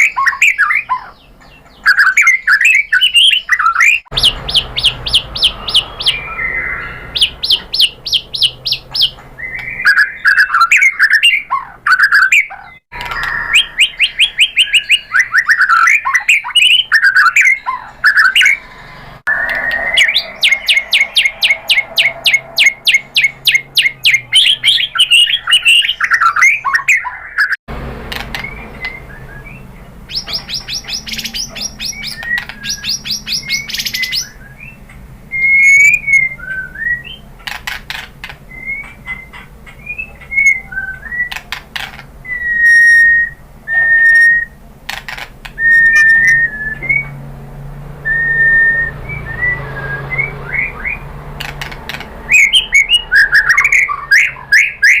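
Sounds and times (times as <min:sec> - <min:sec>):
bird singing trills and whistles: 0:00.0 - 0:27.6, 0:28.2 - 0:44.6, 0:45.5 - 0:47.2, 0:48.0 - 0:55.0.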